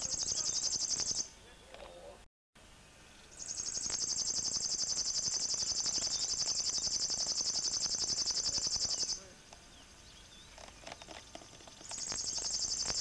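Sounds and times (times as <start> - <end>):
bird reeling buzz song: 0.0 - 1.7, 2.7 - 13.0.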